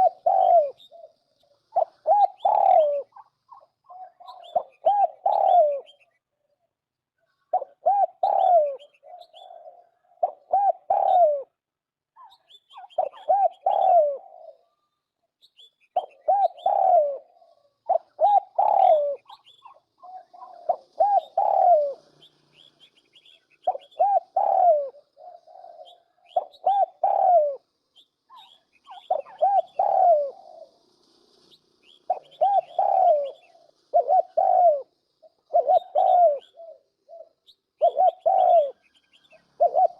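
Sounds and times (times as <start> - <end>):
turtle dove cooing: 0.0 - 6.2, 7.4 - 11.6, 12.2 - 14.8, 15.9 - 30.8, 31.8 - 39.9
small birds chirping: 0.0 - 11.4, 12.1 - 39.9.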